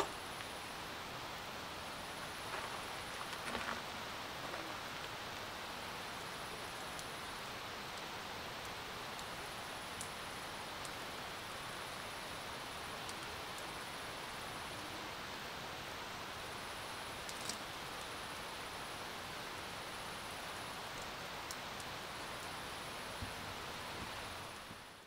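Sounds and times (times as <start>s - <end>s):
campfire hissing: 0.0s - 25.0s
fire crackles: 0.0s - 25.0s.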